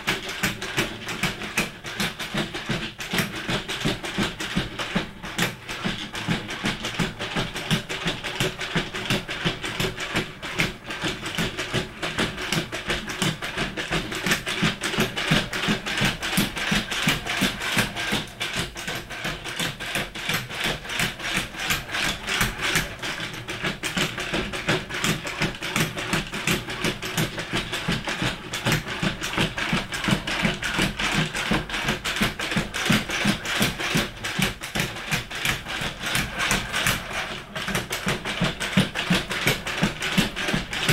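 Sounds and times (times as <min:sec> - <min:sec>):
robot feet tapping on wooden floor: 0:00.0 - 0:40.9.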